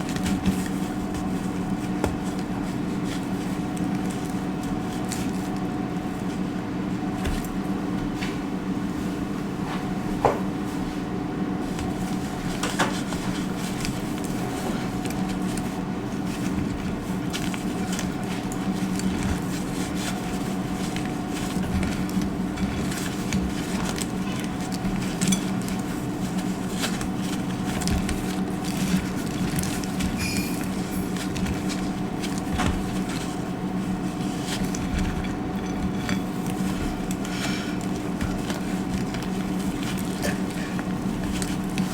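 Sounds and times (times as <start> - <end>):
dry soap crackling and snapping: 0.0 - 8.0, 11.7 - 41.9.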